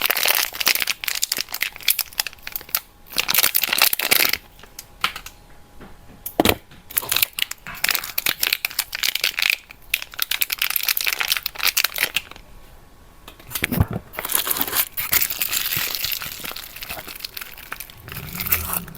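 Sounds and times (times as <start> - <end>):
wrappers crinkling and rustling: 0.0 - 5.3, 6.4 - 12.4, 13.4 - 18.9.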